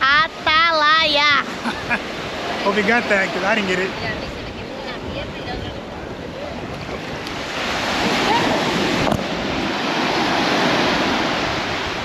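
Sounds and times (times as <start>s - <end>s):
sea waves washing on beach: 0.0s - 12.0s
wind buffeting microphone: 0.1s - 12.0s.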